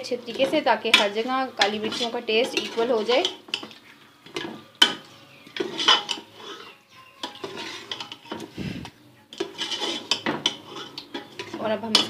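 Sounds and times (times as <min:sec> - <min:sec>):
spoon stirring and scraping pan: 0:00.0 - 0:12.0.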